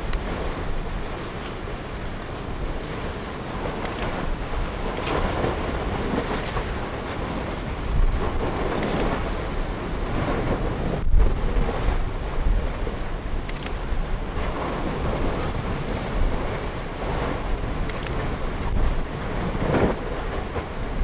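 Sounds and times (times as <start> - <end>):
gusty wind on microphone: 0.0 - 21.0.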